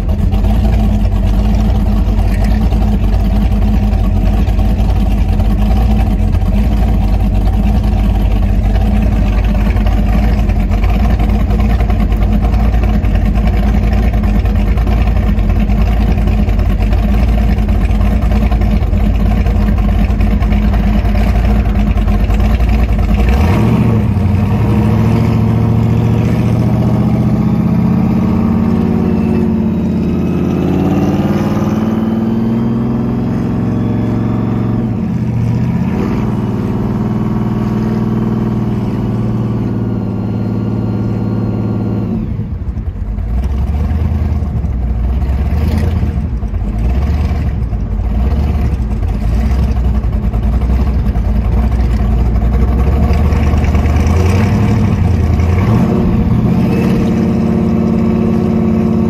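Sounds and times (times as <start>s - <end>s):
car engine idling and accelerating: 0.0s - 59.0s.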